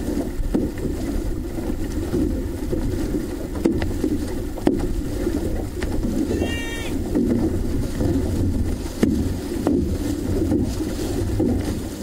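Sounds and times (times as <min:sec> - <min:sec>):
water and wind rumble: 0:00.0 - 0:12.0
sharp knocks on hull: 0:00.1 - 0:12.0.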